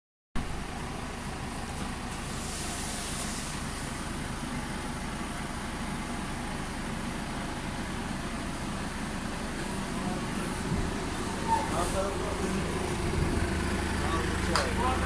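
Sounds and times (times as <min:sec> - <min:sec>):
road vehicle noise: 0:00.4 - 0:15.0.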